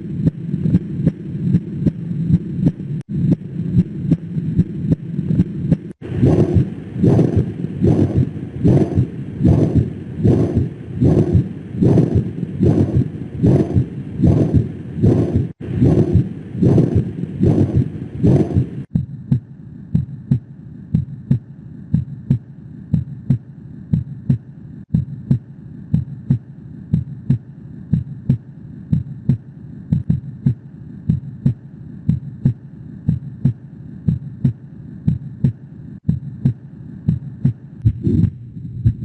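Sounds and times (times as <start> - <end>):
heartbeat through stethoscope: 0.0 - 39.0.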